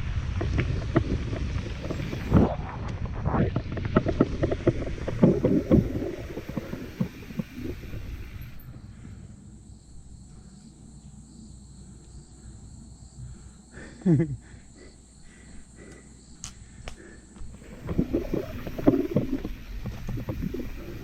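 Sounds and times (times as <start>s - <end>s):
bike rolling on dirt trail: 0.0s - 12.7s, 15.3s - 21.0s
insect drone: 0.0s - 21.0s.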